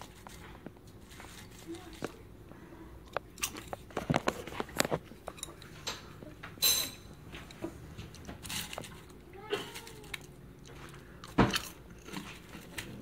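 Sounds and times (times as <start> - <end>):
popcorn crunching while chewed: 0.0 - 2.2, 3.0 - 6.4, 7.3 - 13.0.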